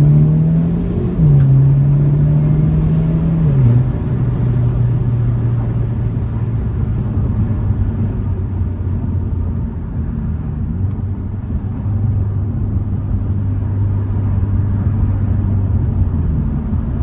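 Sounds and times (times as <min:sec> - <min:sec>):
car engine droning: 0:00.0 - 0:17.0
road noise: 0:00.0 - 0:17.0.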